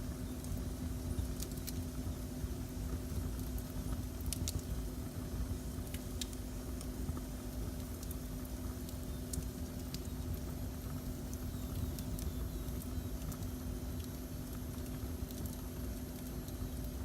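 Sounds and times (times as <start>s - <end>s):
faint steady hum: 0.0s - 17.0s
low rumble of flames: 0.0s - 17.0s
wood fire crackling and popping: 0.0s - 17.0s.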